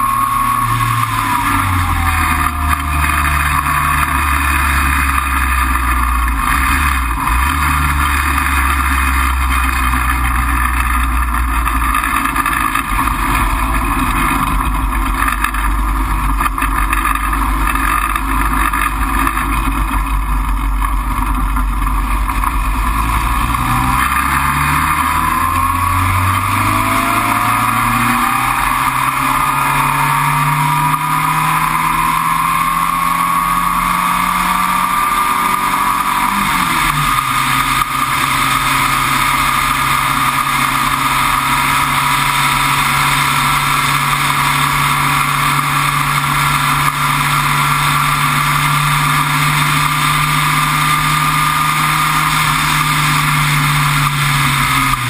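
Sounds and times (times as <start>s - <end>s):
gear change: 0.0s - 55.0s
racing car engine accelerating: 0.0s - 55.0s.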